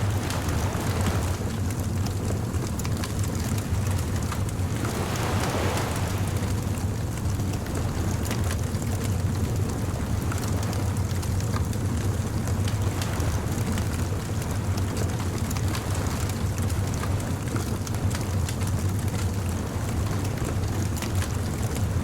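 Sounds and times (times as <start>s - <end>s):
surf rumbling: 0.0s - 22.0s
wind: 0.0s - 22.0s.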